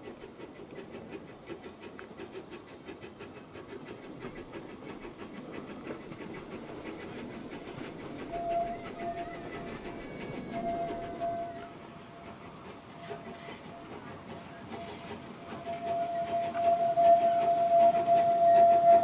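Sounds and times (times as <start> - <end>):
steam locomotive exhaust beats: 0.0 - 19.0.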